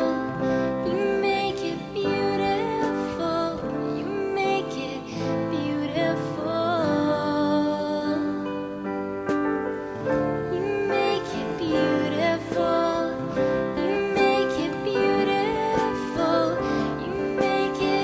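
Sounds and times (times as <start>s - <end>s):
woman singing slow song: 0.0s - 9.0s, 10.2s - 18.0s
soft keyboard chords: 0.0s - 18.0s.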